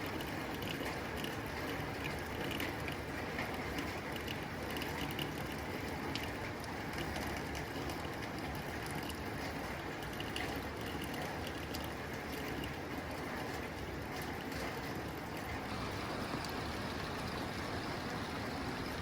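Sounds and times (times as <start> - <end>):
rain on a tin roof: 0.0 - 19.0.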